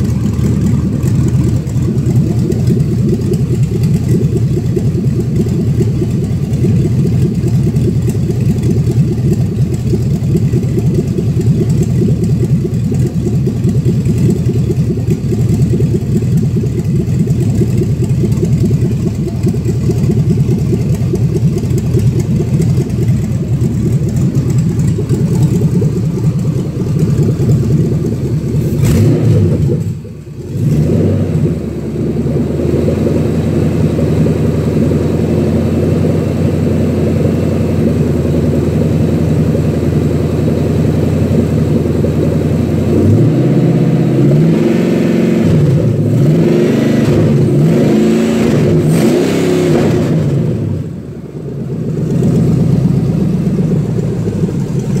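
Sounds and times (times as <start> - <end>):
engine idling and revving: 0.0 - 55.0.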